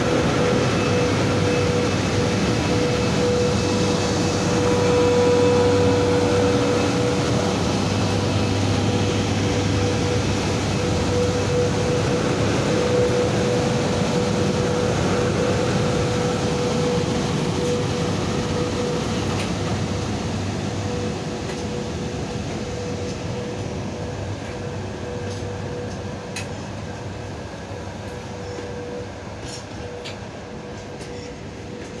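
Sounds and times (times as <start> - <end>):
electric locomotive hum: 0.0 - 32.0
train rumbling: 0.0 - 32.0.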